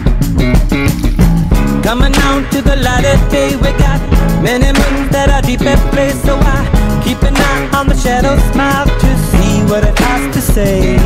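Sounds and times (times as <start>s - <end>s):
pop-rock music with beat: 0.0s - 11.0s.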